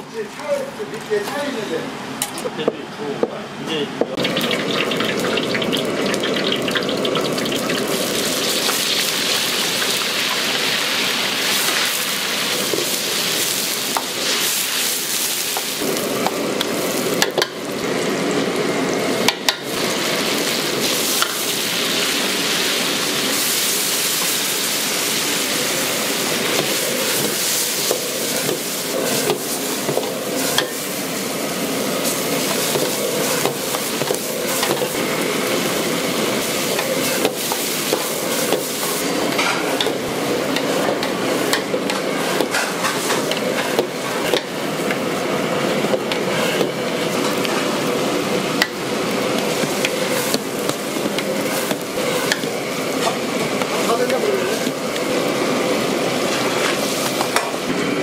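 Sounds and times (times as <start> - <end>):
food sizzling in a wok: 4.2 - 58.0.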